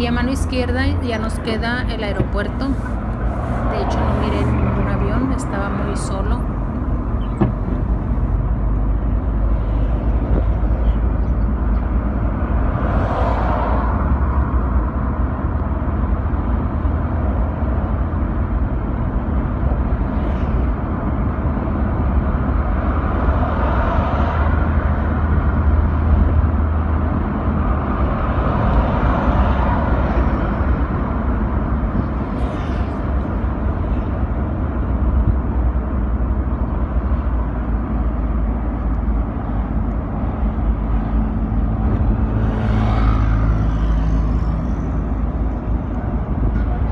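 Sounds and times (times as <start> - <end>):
road and engine noise in car: 0.0 - 46.9.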